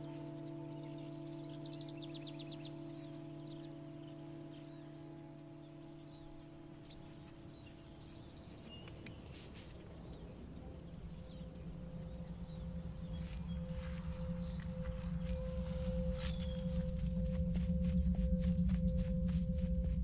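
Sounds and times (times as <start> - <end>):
low musical drone: 0.0 - 9.4, 10.0 - 20.0
faint bird chirps: 0.0 - 20.0
insect drone: 0.0 - 20.0.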